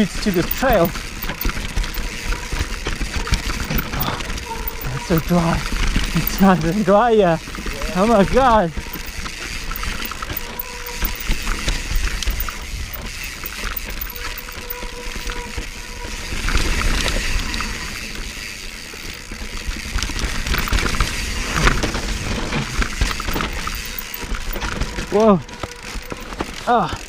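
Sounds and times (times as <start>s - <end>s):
bike rattling and knocking: 0.0s - 27.0s
tyre noise on dirt: 0.0s - 27.0s.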